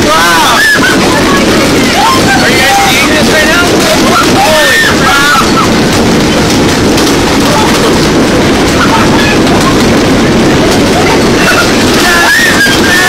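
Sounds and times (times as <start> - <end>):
driving rain: 0.0 - 13.0
faint voices: 0.0 - 13.0
storm wind roaring: 0.0 - 13.0.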